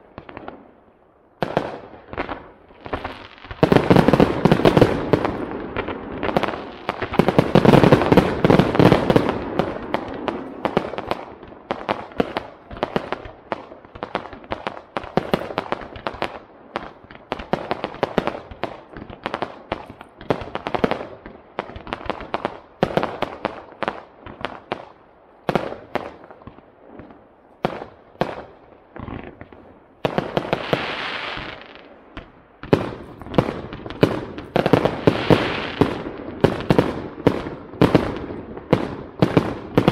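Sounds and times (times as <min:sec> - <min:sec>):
firework bangs and crackles: 0:00.0 - 0:39.9.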